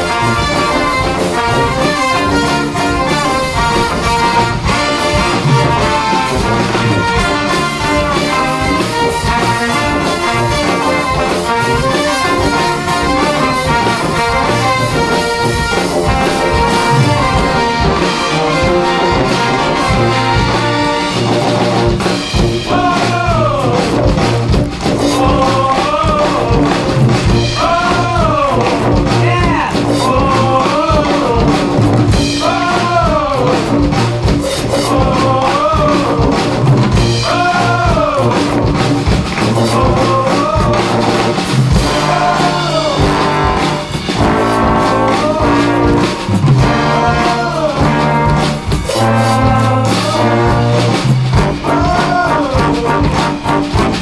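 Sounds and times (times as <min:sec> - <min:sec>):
drum kit: 0:00.0 - 0:54.0
trumpets and saxophones playing: 0:00.0 - 0:54.0.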